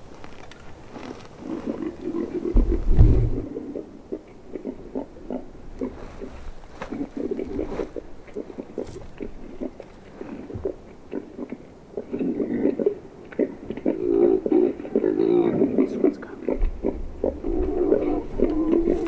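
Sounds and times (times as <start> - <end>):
hog grunting: 1.0 - 19.0.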